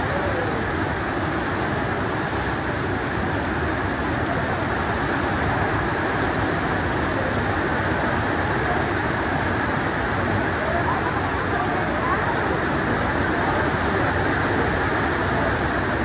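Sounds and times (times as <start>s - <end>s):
heavy rain on concrete: 0.0s - 16.0s.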